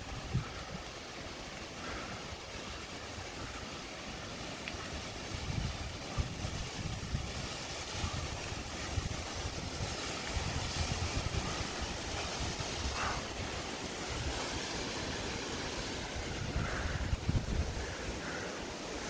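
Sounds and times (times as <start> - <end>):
waterfall rushing: 0.0 - 19.0
wind buffeting microphone: 0.0 - 19.0.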